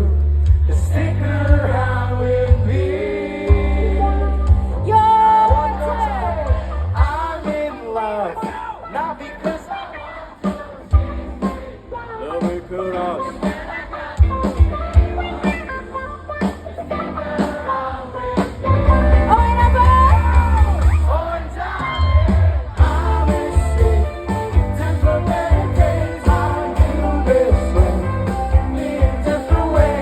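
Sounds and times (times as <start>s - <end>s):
rock band playing live: 2.5s - 30.0s.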